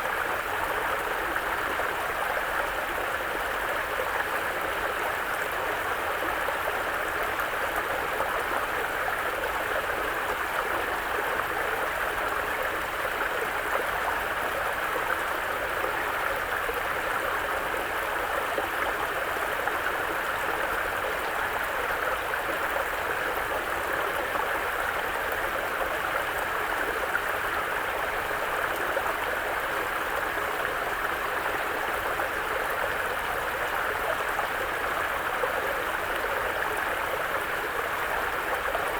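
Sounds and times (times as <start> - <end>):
brook flowing: 0.0 - 38.9.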